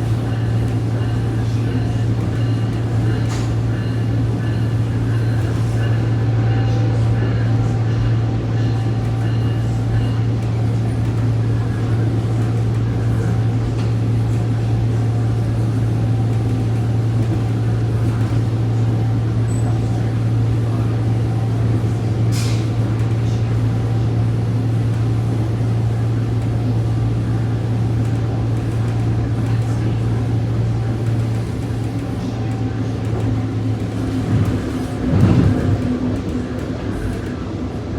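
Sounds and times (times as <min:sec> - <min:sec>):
track rumble: 0:00.0 - 0:37.9
train interior drone: 0:00.0 - 0:37.9.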